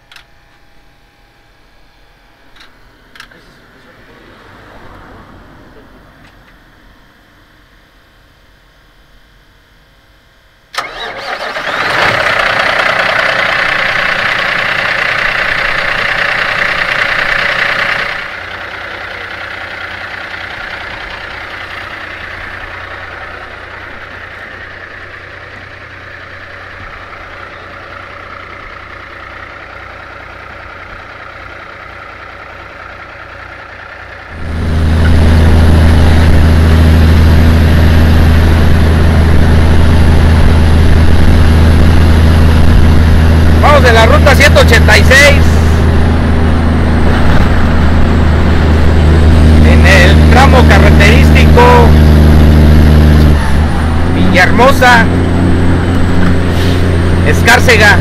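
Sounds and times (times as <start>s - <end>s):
truck engine starting and running: 0.0s - 7.7s, 10.5s - 58.0s
deep steady engine drone: 0.0s - 58.0s.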